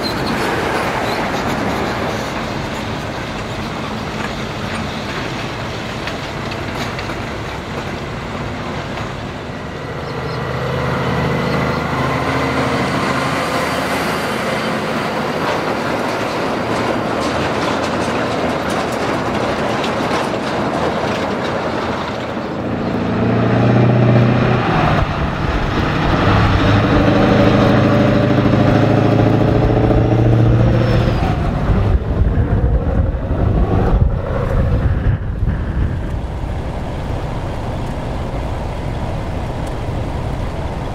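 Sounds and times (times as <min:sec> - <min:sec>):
heavy truck engine under load: 0:00.0 - 0:40.9
trailer wheels rolling and rattling: 0:00.0 - 0:40.9.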